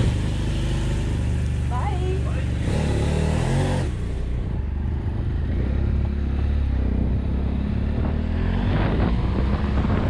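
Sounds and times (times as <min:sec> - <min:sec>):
motorcycle engine pulling away: 0:00.0 - 0:10.0.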